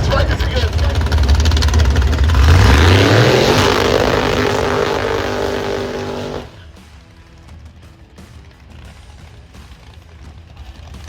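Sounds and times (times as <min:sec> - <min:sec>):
race car engine at full throttle: 0:00.0 - 0:11.0.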